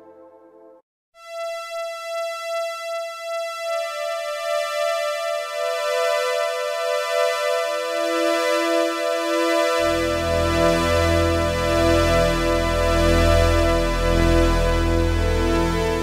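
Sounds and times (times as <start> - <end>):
synthesizer strings chord: 1.3 - 16.0.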